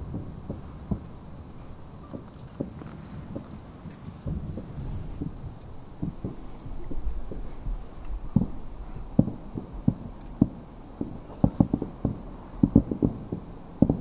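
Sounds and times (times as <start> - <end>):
distant fireworks booming: 0.0 - 14.0.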